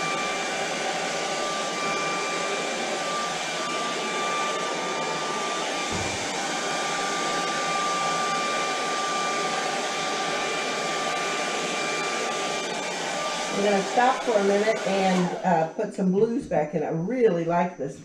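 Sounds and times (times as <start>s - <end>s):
hair dryer running: 0.0s - 16.4s.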